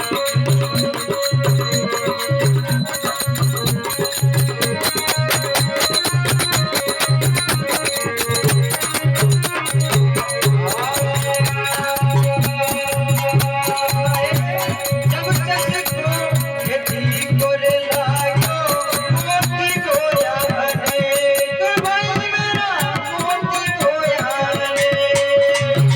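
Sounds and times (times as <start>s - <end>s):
hand drum beat: 0.0s - 25.9s
rattling percussion: 0.0s - 25.9s.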